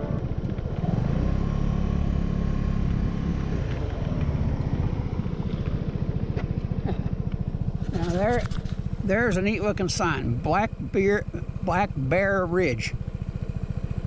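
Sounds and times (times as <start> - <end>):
road noise: 0.0 - 14.0
scooter engine droning: 0.0 - 14.0.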